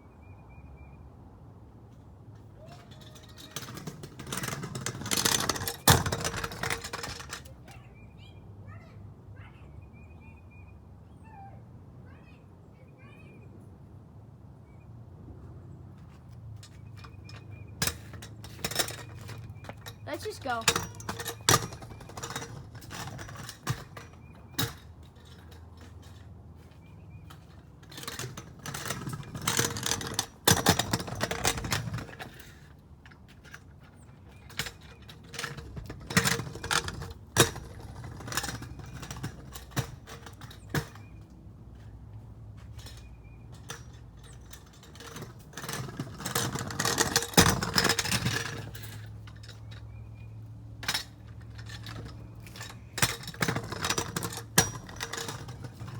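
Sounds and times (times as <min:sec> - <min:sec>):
metal rattles: 0:02.4 - 0:07.7, 0:16.3 - 0:55.9
stunt scooter clattering: 0:02.4 - 0:07.9, 0:16.0 - 0:55.9.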